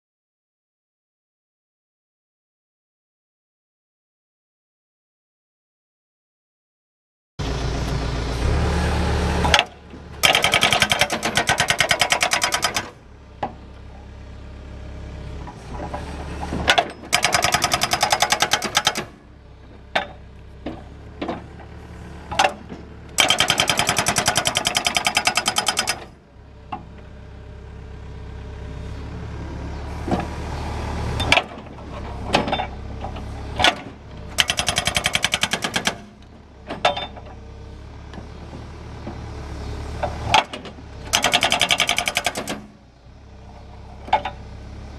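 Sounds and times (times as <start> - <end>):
excavator engine running: 7.4 - 44.9.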